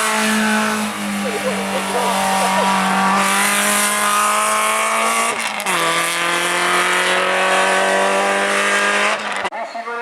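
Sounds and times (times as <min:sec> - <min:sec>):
race car engine accelerating: 0:00.0 - 0:09.5.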